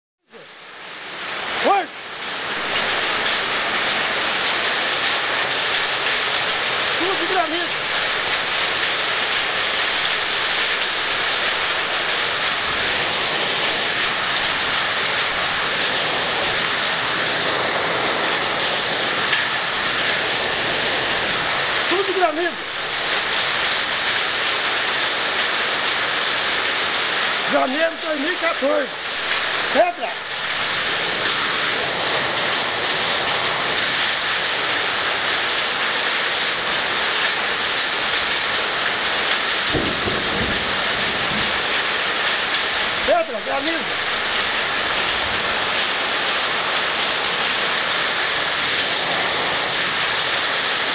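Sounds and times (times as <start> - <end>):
heavy rain and hail: 0.3 - 50.9.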